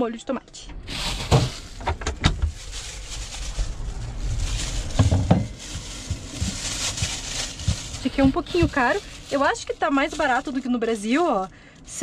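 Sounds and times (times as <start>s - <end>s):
plastic bag rustling: 0.7s - 12.0s.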